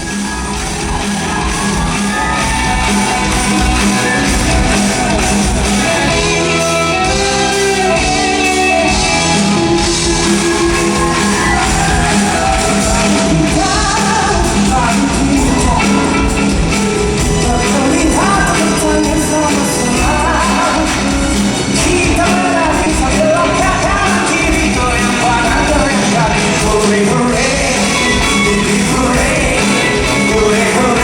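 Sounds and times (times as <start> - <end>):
live band music with singing: 0.0 - 31.0.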